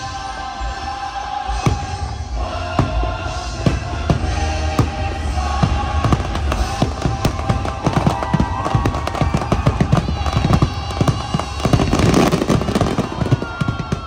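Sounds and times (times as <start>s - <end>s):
show music soundtrack: 0.0s - 14.0s
fireworks bursting: 1.5s - 14.0s.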